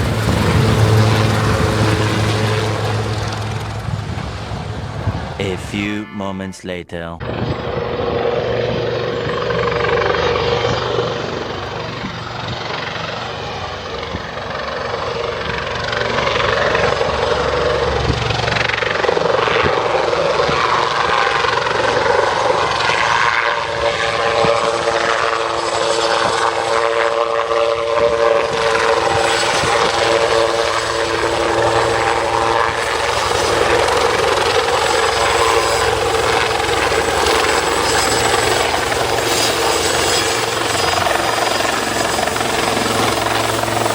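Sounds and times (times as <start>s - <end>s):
helicopter rotor noise: 0.0s - 5.6s, 7.2s - 43.9s
helicopter engines whining: 0.0s - 43.9s.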